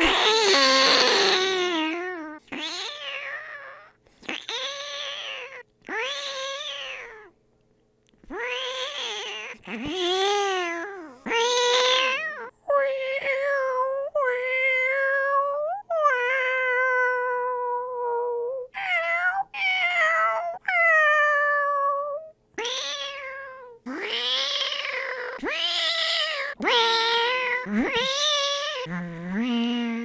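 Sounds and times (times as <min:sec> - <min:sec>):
person imitating cat meows: 0:00.0 - 0:07.3, 0:08.3 - 0:30.0.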